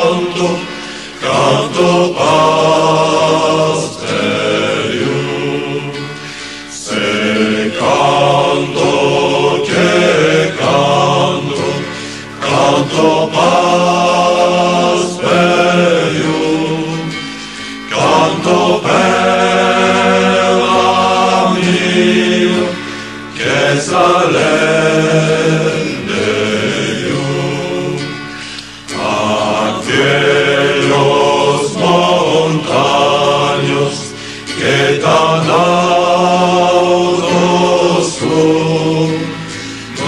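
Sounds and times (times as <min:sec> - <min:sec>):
choir singing slow chant: 0:00.0 - 0:40.0.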